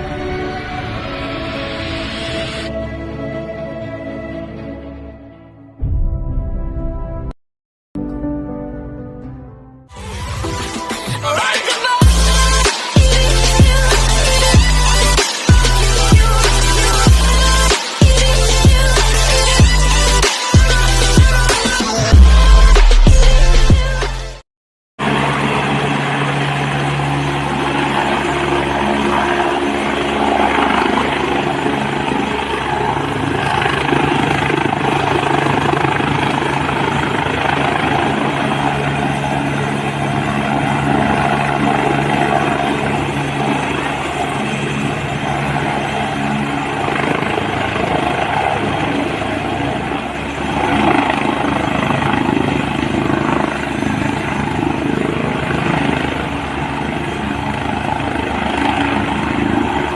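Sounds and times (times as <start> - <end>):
helicopter rotor beating: 10.0 - 24.3, 25.0 - 59.9.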